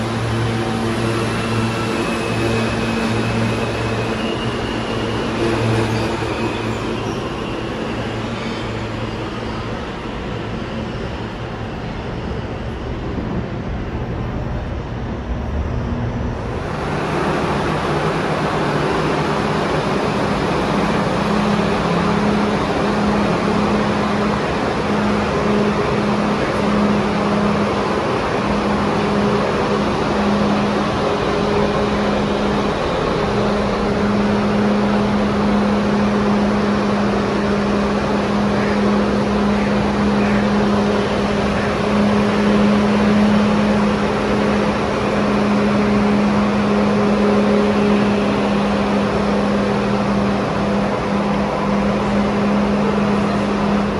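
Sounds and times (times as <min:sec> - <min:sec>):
subway train rumble: 0:00.0 - 0:53.9.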